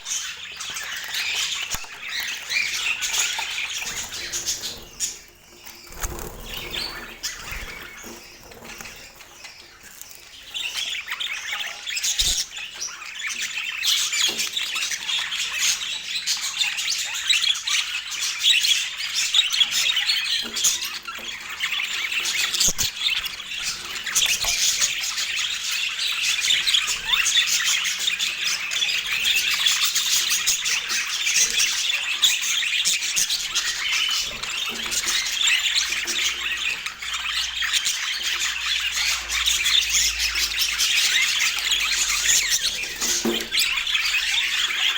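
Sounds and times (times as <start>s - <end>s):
budgerigars chattering and chirping: 0.0s - 44.9s.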